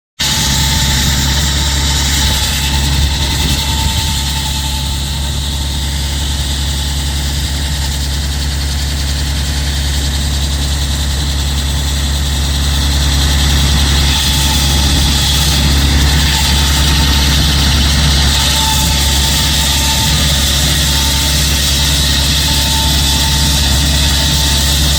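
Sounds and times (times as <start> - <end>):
concrete saw engine running: 0.2 - 24.9.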